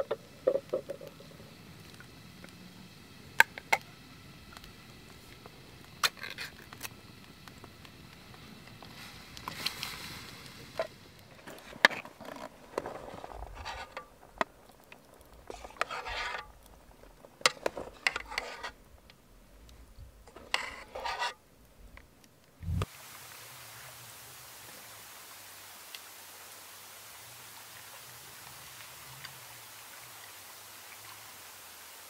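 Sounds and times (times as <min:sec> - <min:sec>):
rain hissing: 0:00.0 - 0:32.0.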